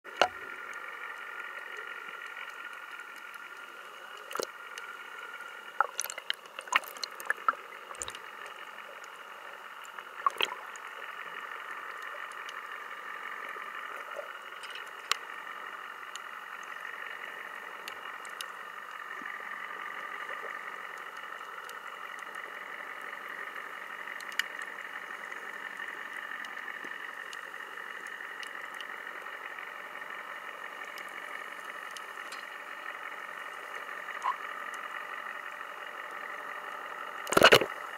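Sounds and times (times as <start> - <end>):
steady underwater hum: 0.0 - 37.9.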